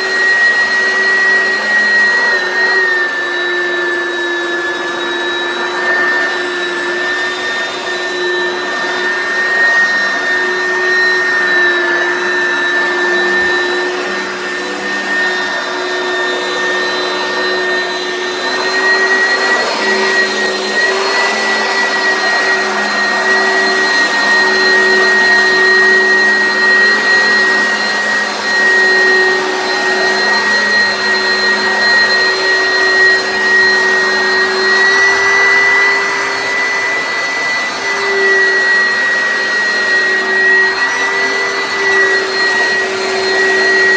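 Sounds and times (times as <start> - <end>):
upright vacuum cleaner whining: 0.0 - 43.9.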